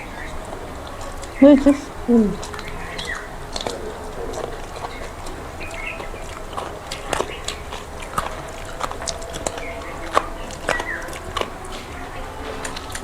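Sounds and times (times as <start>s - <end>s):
wet chewing and mouth smacks: 0.0s - 13.0s.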